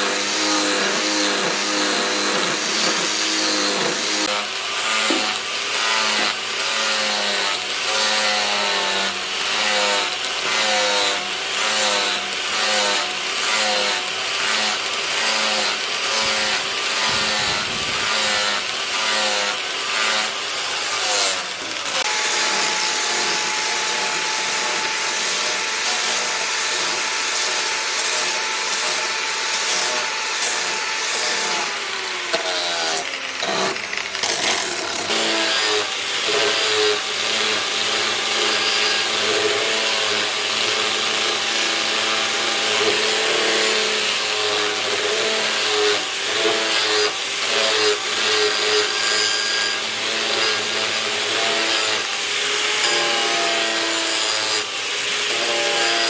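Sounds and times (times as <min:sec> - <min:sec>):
tool whining: 0:00.0 - 0:56.0.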